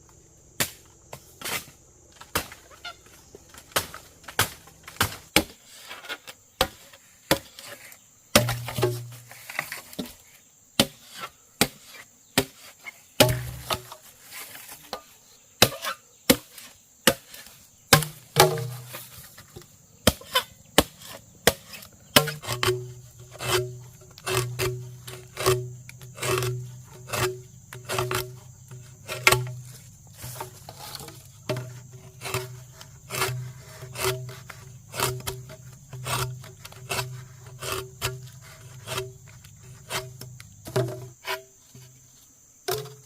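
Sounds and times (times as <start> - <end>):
hand tool working wood: 5.8 - 10.2, 10.8 - 15.0, 15.6 - 42.0.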